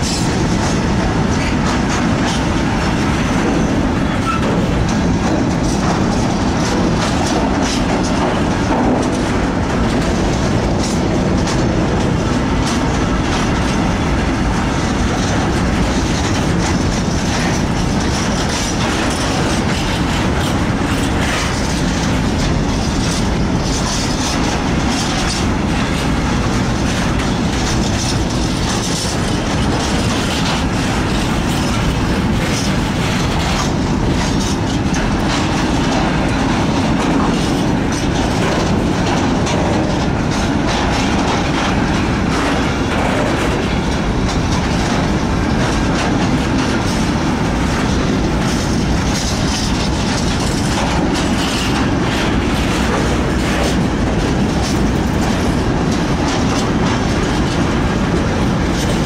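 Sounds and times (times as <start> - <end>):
train wheels rumbling on rails: 0.0 - 59.0
wheels clacking over rail joints: 0.0 - 59.0.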